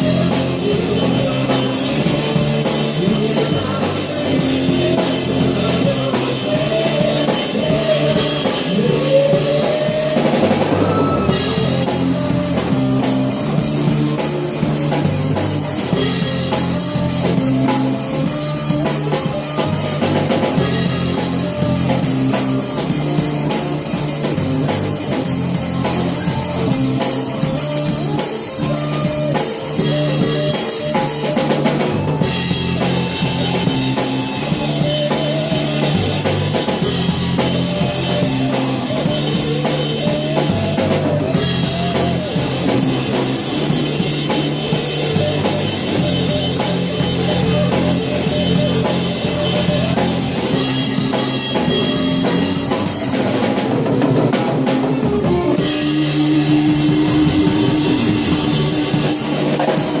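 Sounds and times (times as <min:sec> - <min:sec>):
bass guitar: 0:00.0 - 1:00.0
drum kit beat: 0:00.0 - 1:00.0
wavering electric guitar: 0:00.0 - 1:00.0.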